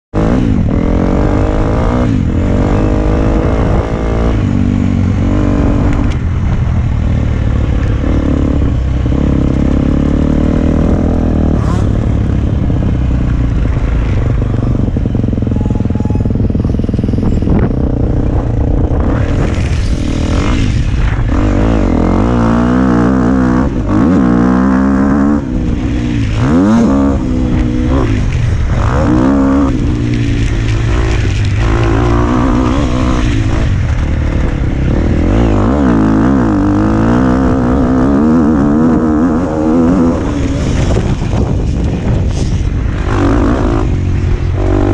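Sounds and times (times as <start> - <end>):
motocross bike engine revving: 0.2 - 6.2, 7.1 - 44.9.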